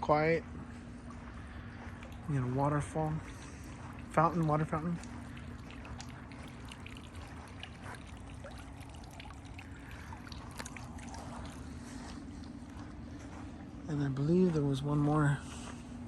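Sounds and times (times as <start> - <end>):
water fountain splashing: 1.5 - 14.4.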